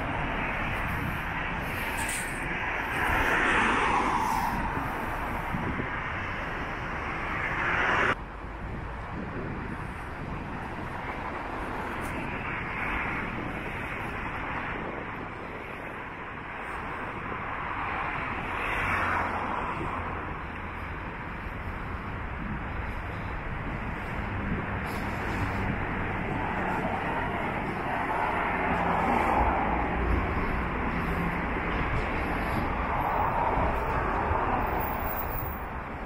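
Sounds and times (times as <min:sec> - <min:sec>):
background traffic hum: 0:00.0 - 0:36.0
vehicles passing: 0:00.0 - 0:36.0.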